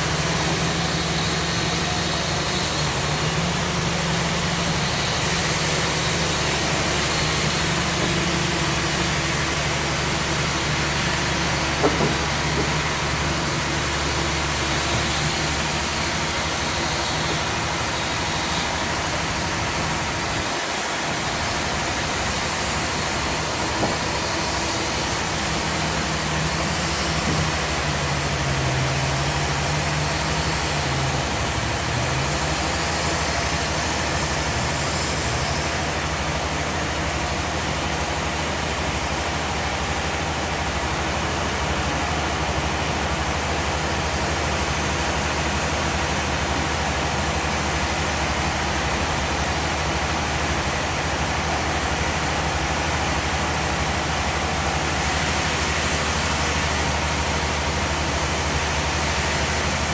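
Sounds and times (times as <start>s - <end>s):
low engine hum: 0.0s - 59.9s
sawmill machinery running: 0.0s - 59.9s.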